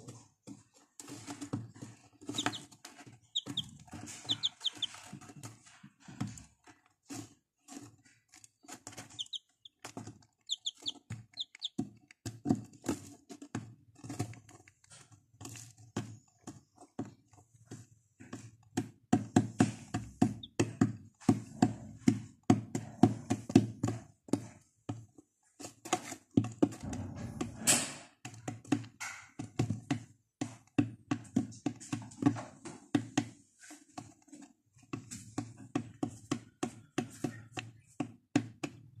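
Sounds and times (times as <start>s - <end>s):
chicks pecking on plastic floor: 0.0s - 39.0s.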